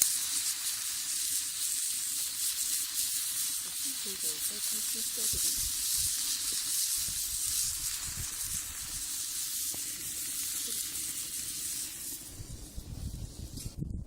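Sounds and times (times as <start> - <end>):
food sizzling in a skillet: 0.0 - 13.9.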